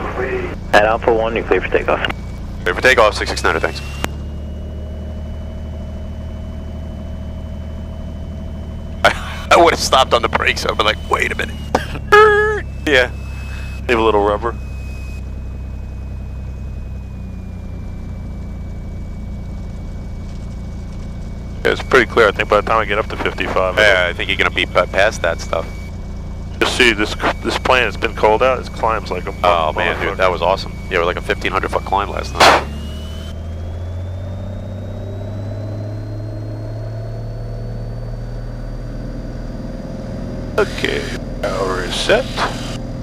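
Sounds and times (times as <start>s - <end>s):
airplane piston engine drone: 0.0s - 43.0s
faint high whine: 0.0s - 43.0s.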